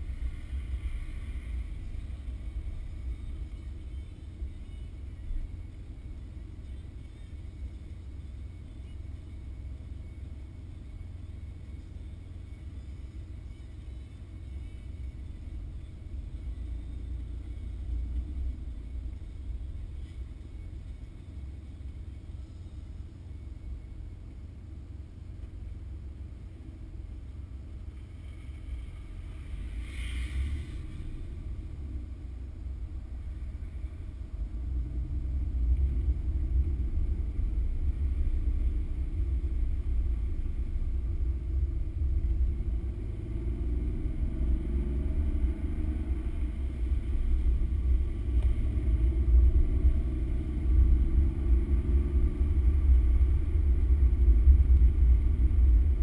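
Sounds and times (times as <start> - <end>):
car engine from inside cabin: 0.0 - 56.0
road rumble: 0.0 - 56.0.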